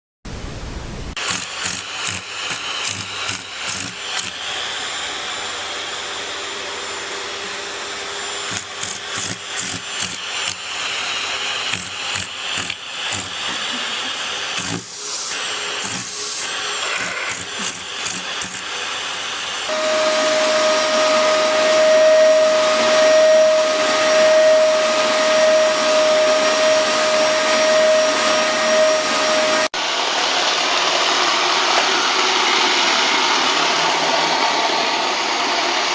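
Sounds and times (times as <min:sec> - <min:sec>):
vacuum cleaner motor whine: 0:01.2 - 0:35.9.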